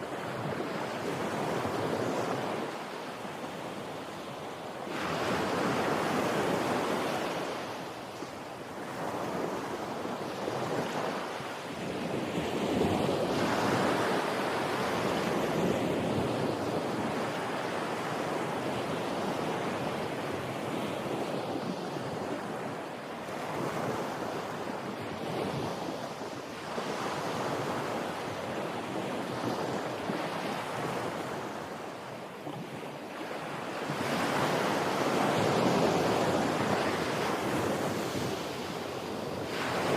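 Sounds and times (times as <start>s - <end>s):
ocean waves breaking on a beach: 0.0s - 39.9s.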